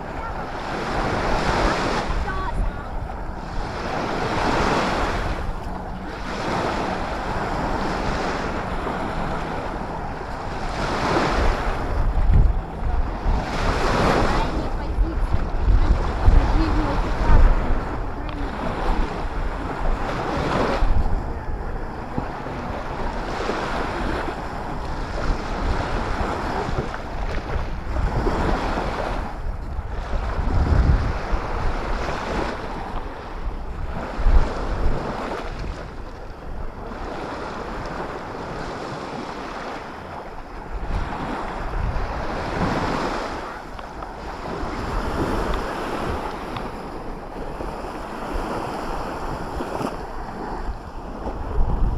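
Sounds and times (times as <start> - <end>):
sea waves breaking on shore: 0.0 - 51.9
wind buffeting microphone: 0.0 - 51.9.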